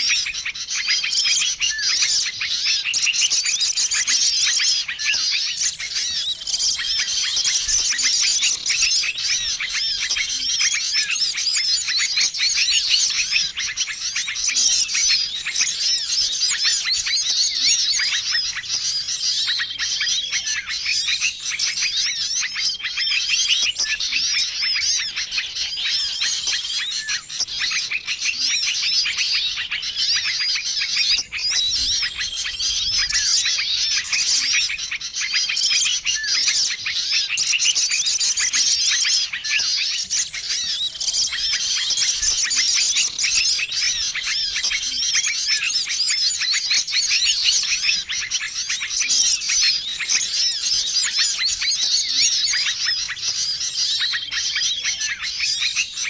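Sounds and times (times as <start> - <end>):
small birds chirping and warbling: 0.0 - 56.0.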